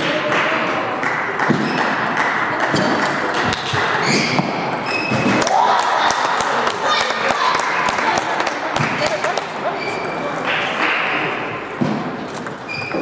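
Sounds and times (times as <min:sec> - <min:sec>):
din of busy sports hall: 0:00.0 - 0:13.0
table tennis balls clicking: 0:00.0 - 0:13.0.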